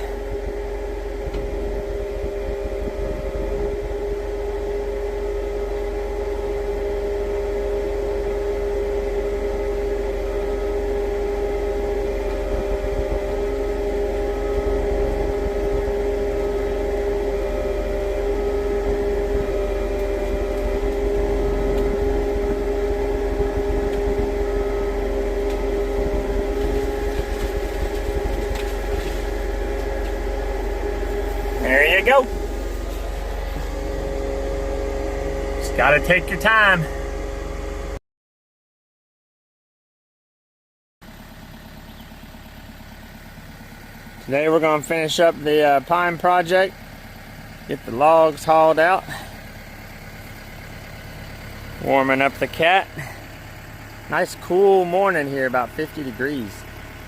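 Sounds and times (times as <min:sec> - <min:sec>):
diesel engine at high revs: 0:00.0 - 0:38.0, 0:41.0 - 0:57.0.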